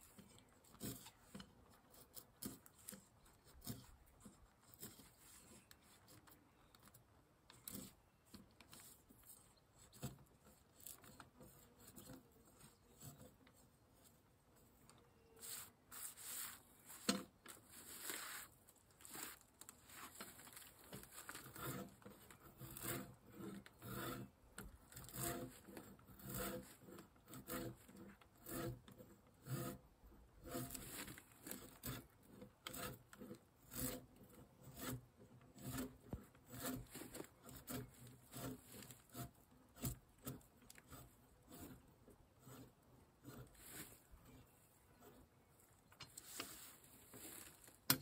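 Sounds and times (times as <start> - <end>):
hand tool scraping wood: 0.0 - 48.0.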